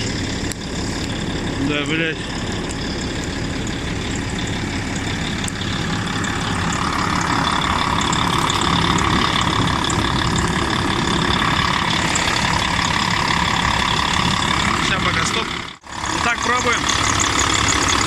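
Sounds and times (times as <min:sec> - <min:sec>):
diesel engine idling: 0:00.0 - 0:18.0
drive belt squealing: 0:00.0 - 0:18.0.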